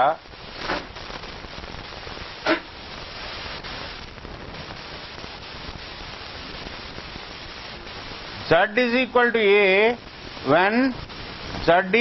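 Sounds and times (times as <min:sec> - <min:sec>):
steady room hiss: 0:00.0 - 0:12.0.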